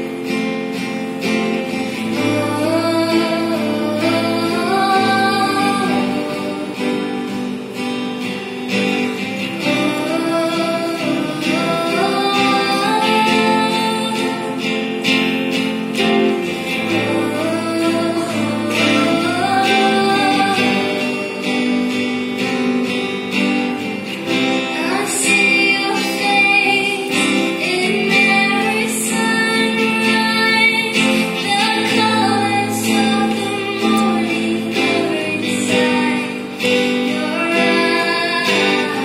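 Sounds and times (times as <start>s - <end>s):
acoustic guitar strumming: 0.0s - 39.0s
woman singing: 0.0s - 39.0s.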